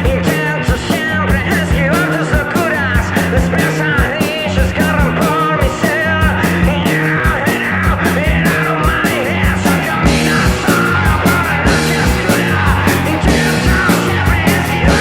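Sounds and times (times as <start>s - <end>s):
surf-punk rock band playing: 0.0s - 15.0s.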